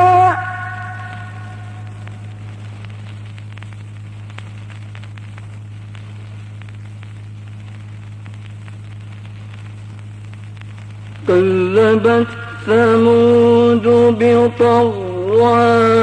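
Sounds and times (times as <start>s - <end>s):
crackling clicks and hiss: 0.0s - 16.0s
low electrical hum: 0.0s - 16.0s.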